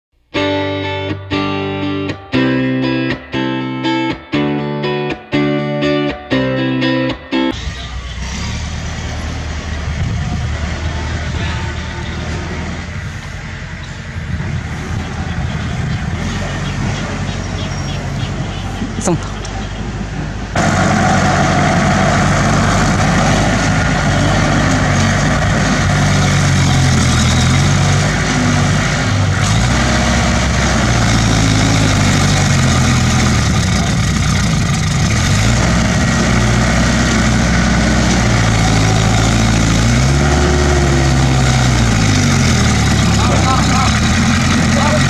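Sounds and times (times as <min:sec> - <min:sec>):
bulldozer diesel engine revving: 0:07.5 - 0:45.0.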